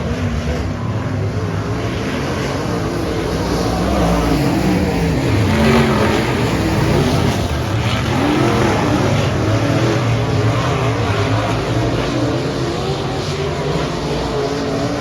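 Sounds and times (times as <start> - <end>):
race car engines at speed: 0.0 - 15.0.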